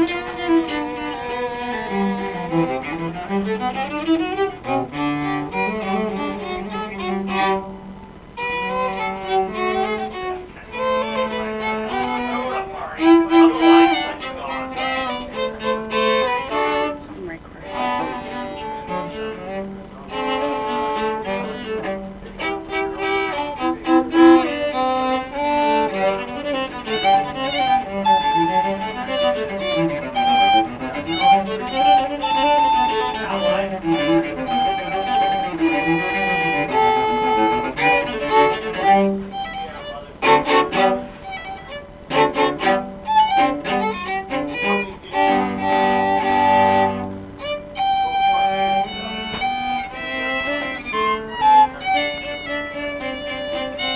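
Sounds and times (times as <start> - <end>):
cello: 0.0 - 53.9
violin: 0.0 - 53.9.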